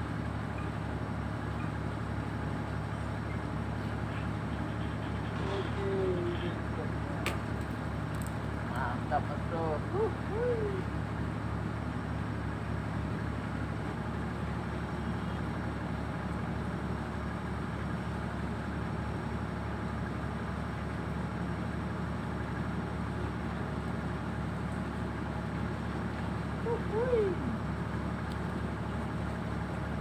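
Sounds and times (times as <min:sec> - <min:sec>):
ship engine humming: 0:00.0 - 0:30.0.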